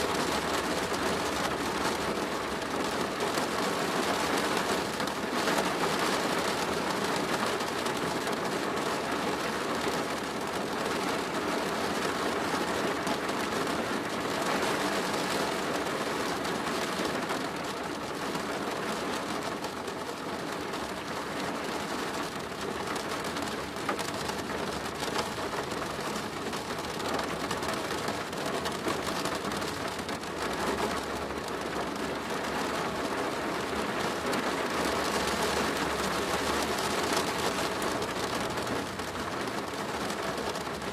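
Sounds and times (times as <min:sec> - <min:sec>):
rain on a plastic roof: 0:00.0 - 0:40.9.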